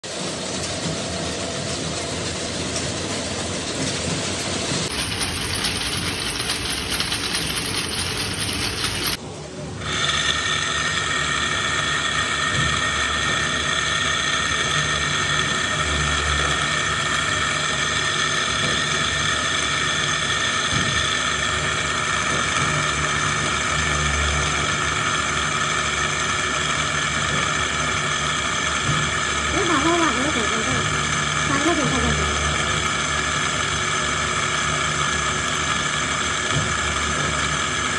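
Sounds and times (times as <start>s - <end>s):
small electric motor whining: 4.8s - 9.2s, 9.8s - 37.9s.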